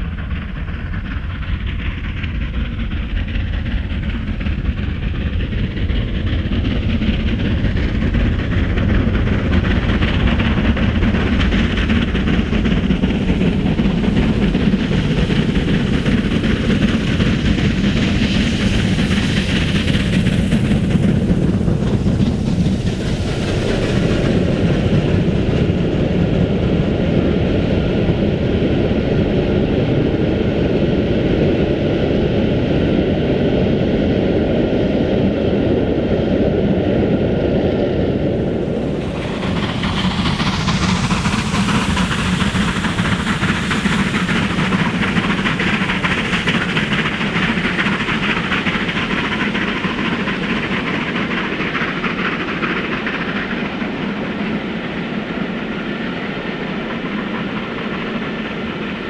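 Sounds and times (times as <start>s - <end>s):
train wheels clicking over rail joints: 0.0s - 27.2s, 38.4s - 59.0s.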